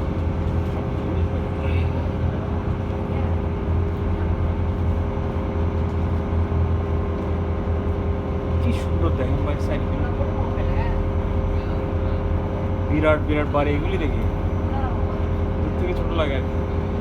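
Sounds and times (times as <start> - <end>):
constant hum: 0.0 - 17.0
vehicle engine drone: 0.0 - 17.0.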